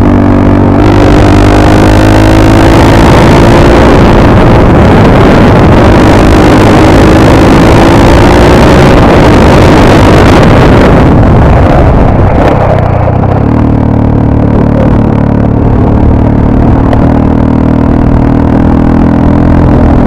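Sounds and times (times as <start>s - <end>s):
motorcycle engine accelerating: 0.0s - 20.0s
rushing wind noise: 0.0s - 20.0s.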